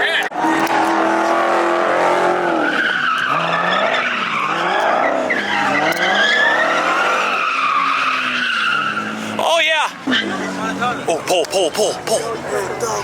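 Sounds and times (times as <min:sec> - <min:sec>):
car engine revving: 0:00.0 - 0:13.0
tyres squealing: 0:00.4 - 0:13.0.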